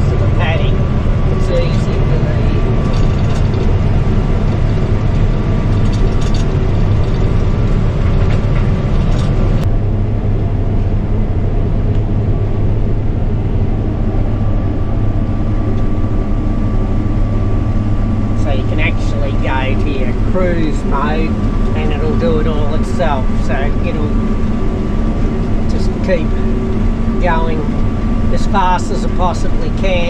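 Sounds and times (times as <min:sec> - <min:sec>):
combine harvester engine drone: 0:00.0 - 0:30.0
machinery whine: 0:00.0 - 0:30.0.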